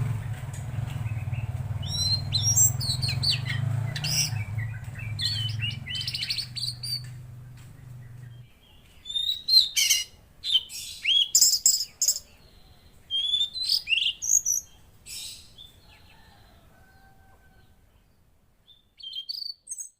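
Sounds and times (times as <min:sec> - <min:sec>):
songbird chirping and trilling: 0:00.0 - 0:19.9.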